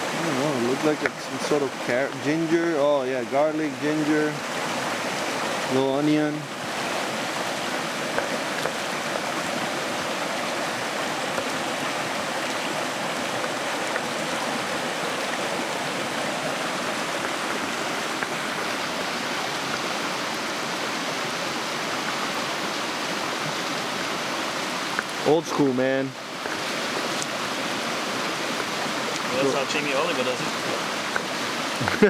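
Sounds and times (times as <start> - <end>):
water rushing over stones: 0.0 - 32.0.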